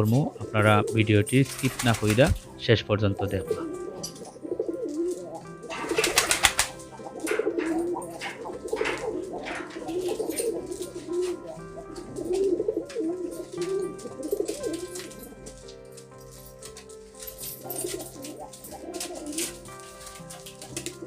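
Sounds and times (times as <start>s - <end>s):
pigeons cooing: 0.0s - 15.7s, 17.6s - 21.0s.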